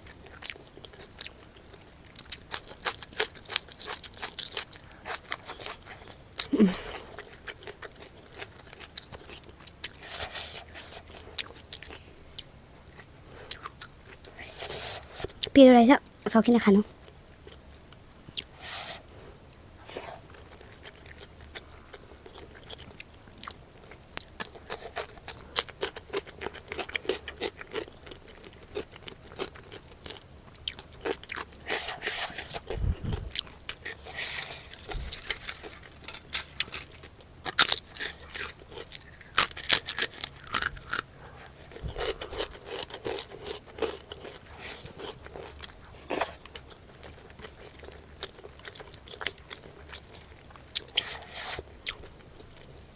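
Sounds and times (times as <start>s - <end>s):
crisp food crunches: 0.3s - 12.6s, 20.0s - 52.7s.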